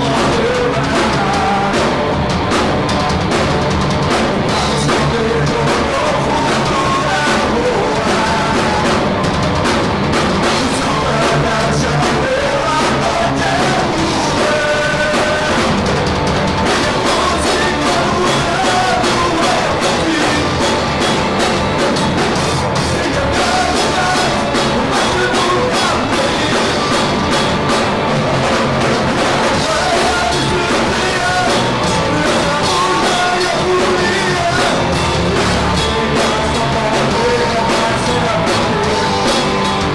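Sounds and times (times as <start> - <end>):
live rock band playing loud: 0.0 - 39.9.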